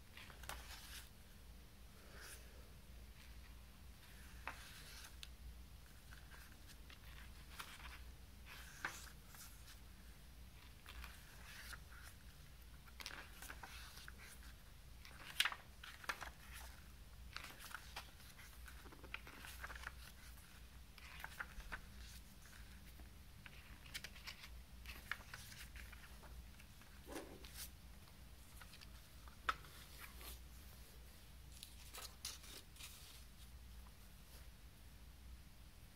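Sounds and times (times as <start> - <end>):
paper pages rustling: 0.1 - 1.1, 3.2 - 9.8, 10.6 - 34.4.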